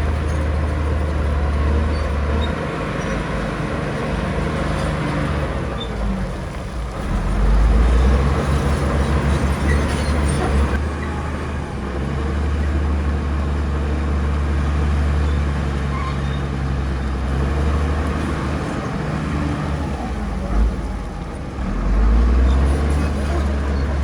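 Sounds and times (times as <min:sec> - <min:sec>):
heavy diesel engine droning: 0:00.0 - 0:24.0.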